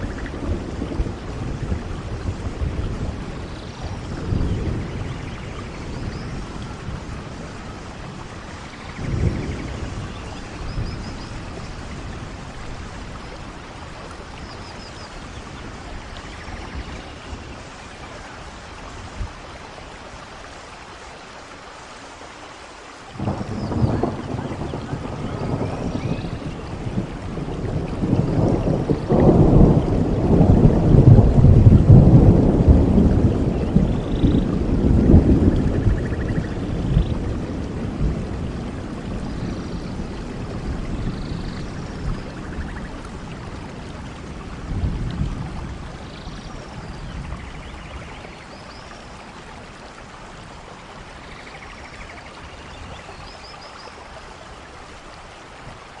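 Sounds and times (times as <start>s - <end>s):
thunder rumbling: 0.0s - 20.2s, 23.2s - 50.4s
heavy rain: 0.0s - 56.0s.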